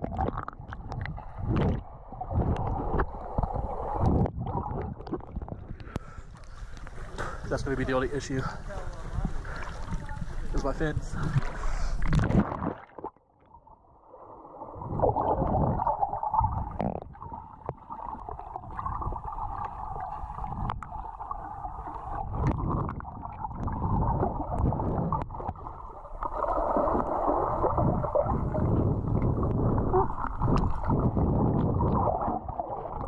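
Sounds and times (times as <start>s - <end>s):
muffled underwater rush: 0.0s - 33.0s
water splashing: 0.0s - 33.0s.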